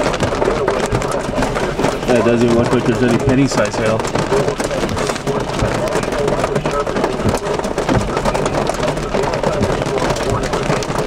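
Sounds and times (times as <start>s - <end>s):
rain and hail on car roof: 0.0s - 11.0s.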